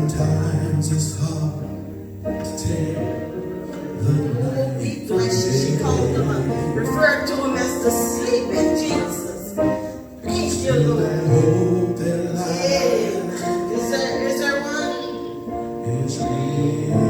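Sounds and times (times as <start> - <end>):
person singing: 0.0 - 17.0.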